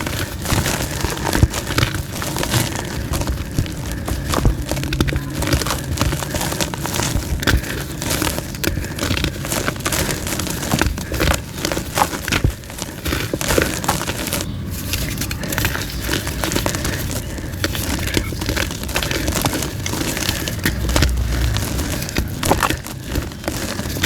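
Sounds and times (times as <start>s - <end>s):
chalk crunching and snapping: 0.0s - 24.0s.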